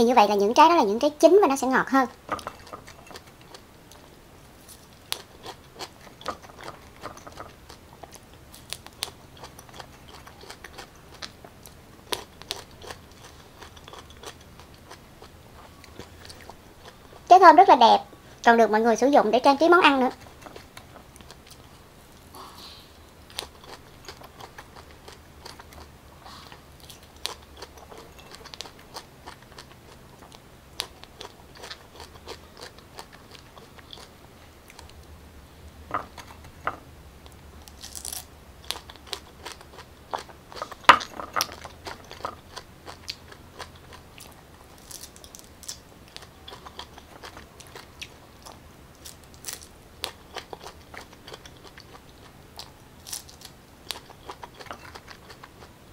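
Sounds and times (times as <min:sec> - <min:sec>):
biting and chewing pineapple: 0:02.1 - 0:17.3, 0:19.9 - 0:21.9, 0:23.2 - 0:35.0, 0:35.9 - 0:55.8.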